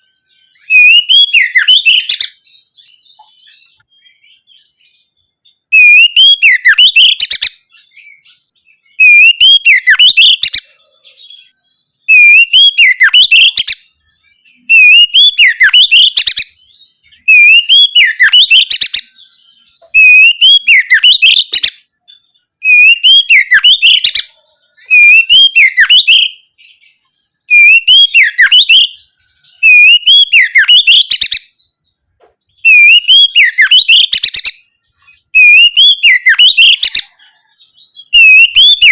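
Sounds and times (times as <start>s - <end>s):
magpie-robin singing: 0.0s - 38.9s.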